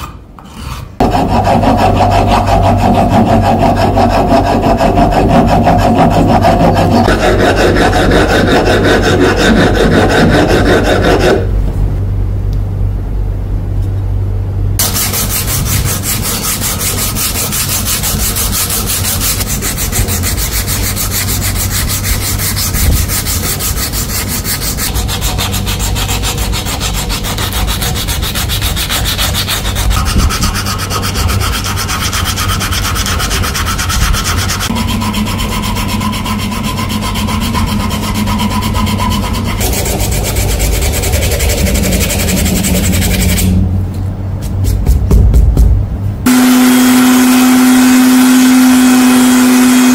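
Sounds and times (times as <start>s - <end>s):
wood being sanded: 0.6s - 11.5s, 14.8s - 43.6s, 46.3s - 49.9s
low hum: 1.0s - 49.9s.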